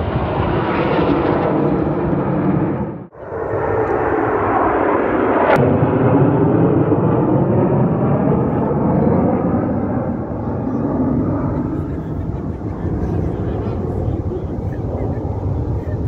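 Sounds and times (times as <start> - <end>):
jet roar overhead: 0.0 - 16.0.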